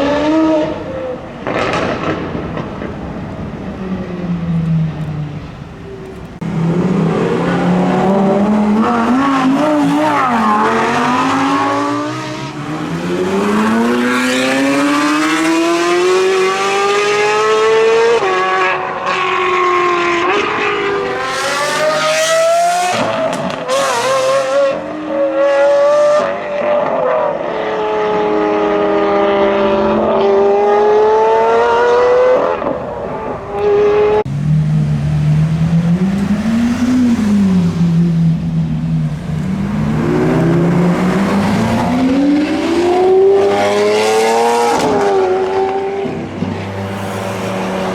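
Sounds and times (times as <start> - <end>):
car engine accelerating hard: 5.7 - 47.9.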